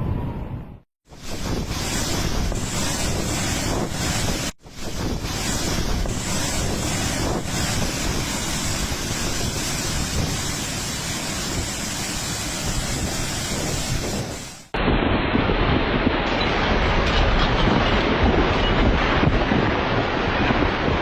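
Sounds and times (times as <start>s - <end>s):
storm wind on microphone: 0.0s - 21.0s.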